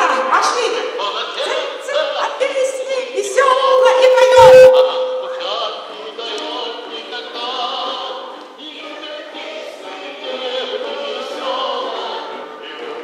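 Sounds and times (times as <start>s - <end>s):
choir singing: 0.7s - 2.2s, 3.2s - 13.0s.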